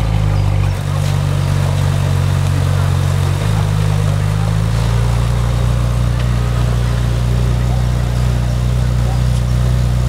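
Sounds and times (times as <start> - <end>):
sports car engine idling: 0.0 - 10.0.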